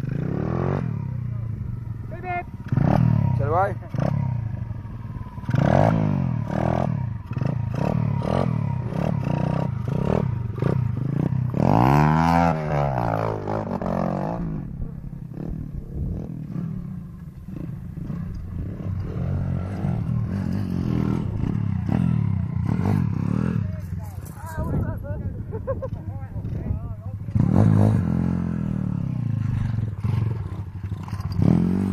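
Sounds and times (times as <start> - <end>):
small motorbike engine revving: 0.0 - 24.0, 26.4 - 31.9.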